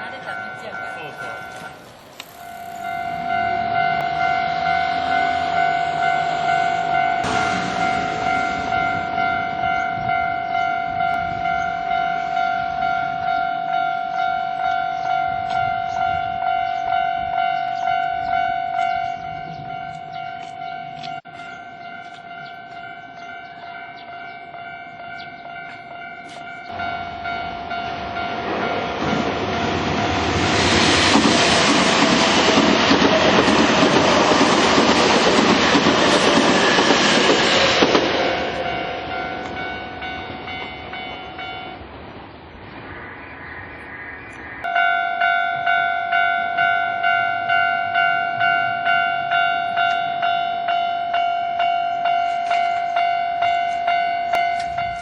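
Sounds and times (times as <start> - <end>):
level-crossing warning bell: 0.0 - 41.9, 44.6 - 55.0
electric train passing over rails: 0.0 - 55.0.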